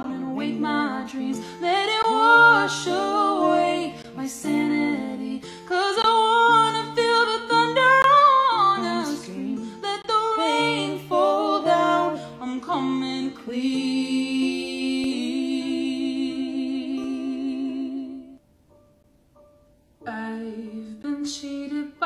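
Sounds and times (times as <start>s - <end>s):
women singing in harmony: 0.0s - 18.4s, 20.0s - 22.0s
acoustic guitar: 0.0s - 22.0s.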